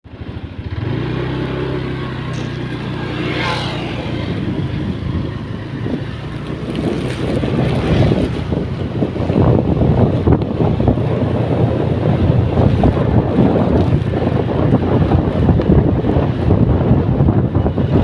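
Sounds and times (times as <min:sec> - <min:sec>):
engine running: 0:00.0 - 0:18.0
wind buffeting microphone: 0:00.1 - 0:18.0.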